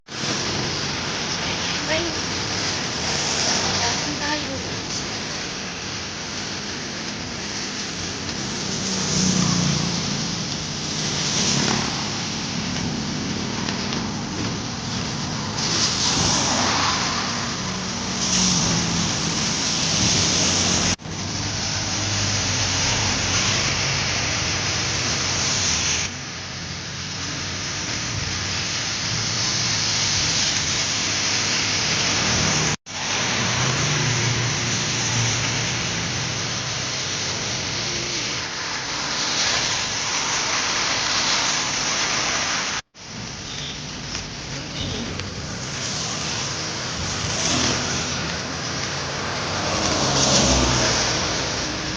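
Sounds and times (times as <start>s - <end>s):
steady rain hiss: 0.1s - 51.9s
vehicle engine and tyre noise: 0.1s - 51.9s.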